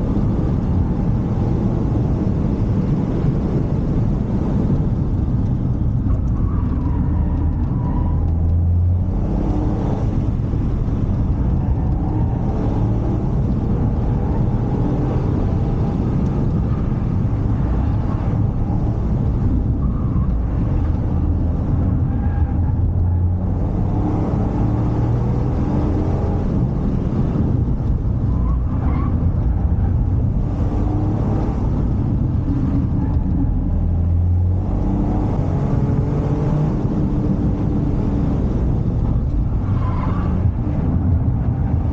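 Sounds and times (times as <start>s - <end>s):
car engine under load: 0.0s - 41.9s
road and tyre noise: 0.0s - 41.9s.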